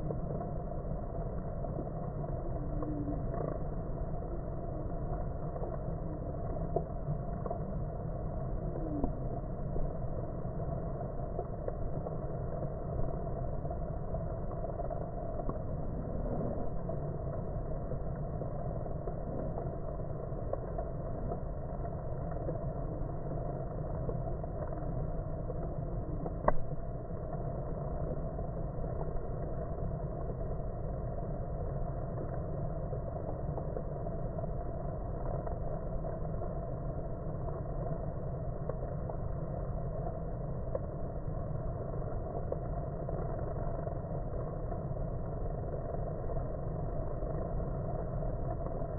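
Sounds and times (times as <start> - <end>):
faint ticks: 0.0 - 48.9.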